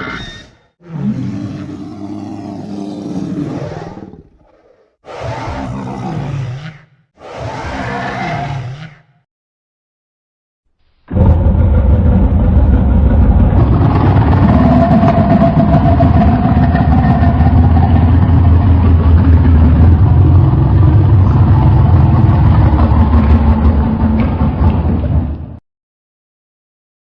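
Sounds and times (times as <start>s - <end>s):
deep dinosaur growl: 0.7s - 9.2s, 11.0s - 25.6s.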